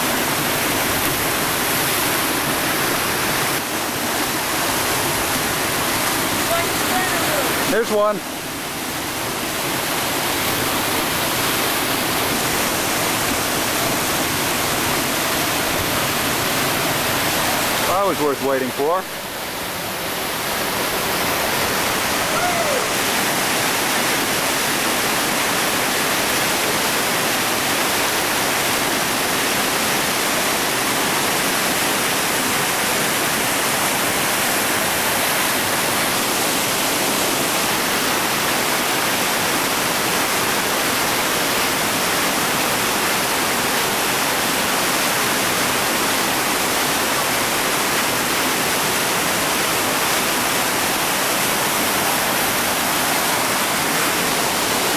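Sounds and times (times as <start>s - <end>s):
whitewater rapids rushing: 0.0s - 54.9s.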